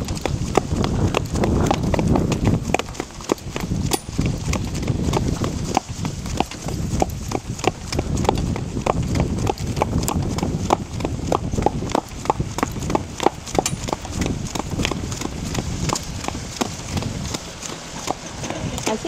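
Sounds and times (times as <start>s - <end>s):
cart rolling rumble: 0.0s - 19.0s
hooves clip-clopping on dirt road: 0.0s - 19.0s.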